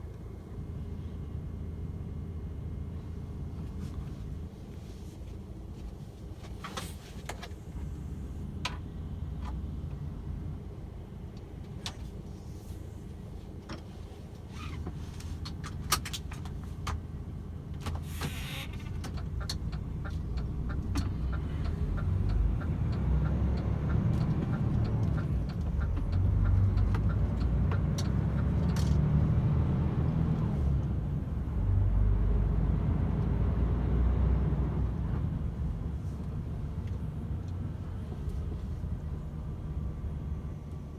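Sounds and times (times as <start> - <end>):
truck diesel engine rumble: 0.0 - 40.9.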